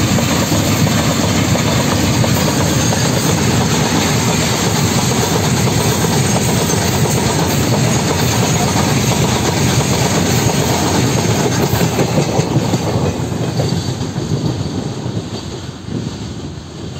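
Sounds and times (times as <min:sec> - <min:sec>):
train wheels clattering over rails: 0:00.0 - 0:16.9.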